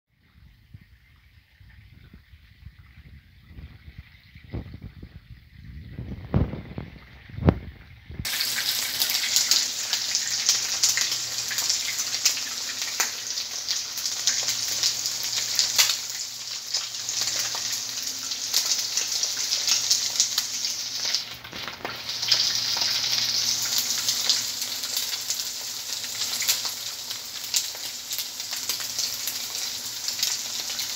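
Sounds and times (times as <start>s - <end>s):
pork frying with crackling pops: 0.1s - 30.9s.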